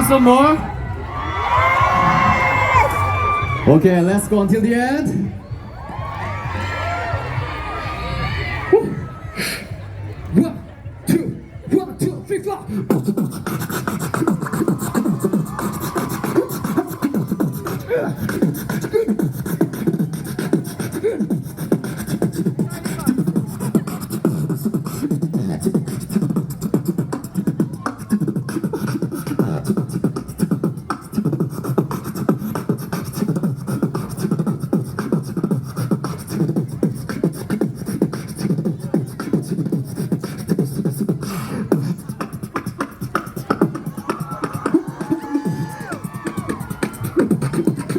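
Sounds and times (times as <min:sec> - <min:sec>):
person beatboxing: 0:08.8 - 0:47.9.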